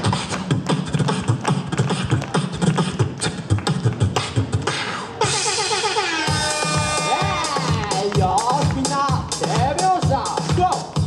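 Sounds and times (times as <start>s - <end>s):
beatboxing into microphone: 0.0s - 11.0s
recorded music: 0.0s - 11.0s.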